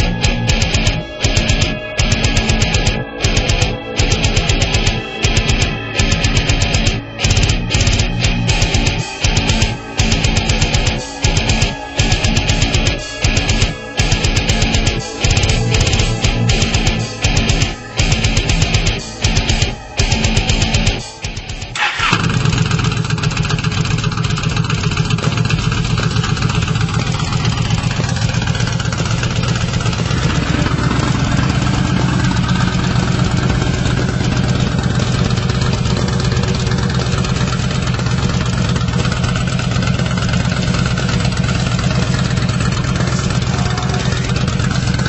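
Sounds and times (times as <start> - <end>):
motorcycle engine starting and idling: 0.0 - 45.0.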